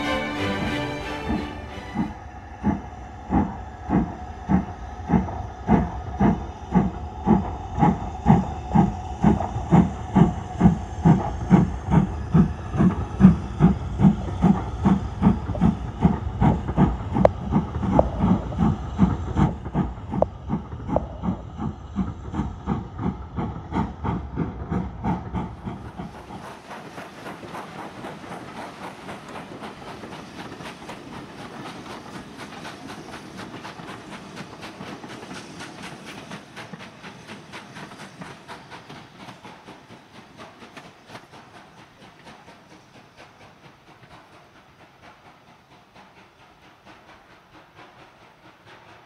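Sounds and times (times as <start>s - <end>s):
steam locomotive chuffing: 0.0s - 49.0s.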